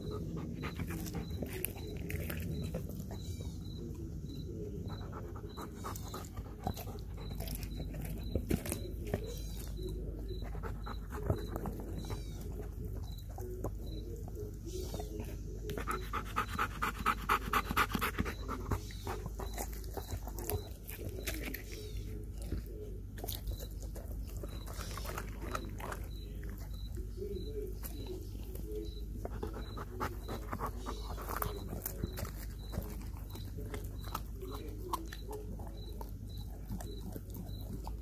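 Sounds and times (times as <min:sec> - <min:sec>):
dog chewing raw chicken: 0:00.0 - 0:38.0
dog panting: 0:00.0 - 0:38.0.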